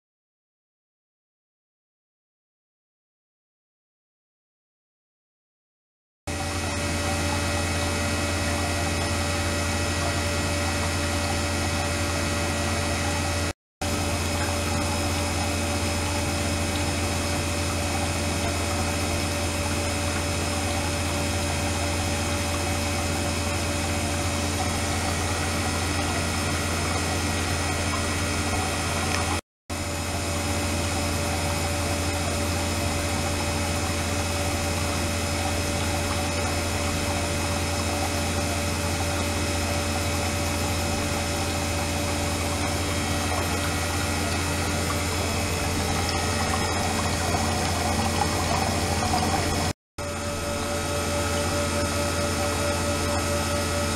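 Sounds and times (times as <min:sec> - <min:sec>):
ultrasonic cleaner hum and hiss: 0:06.4 - 0:53.9.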